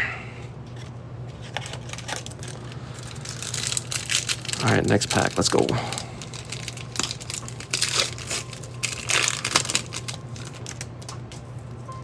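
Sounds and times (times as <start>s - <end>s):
foil wrapper crinkling and tearing: 0.8s - 11.7s.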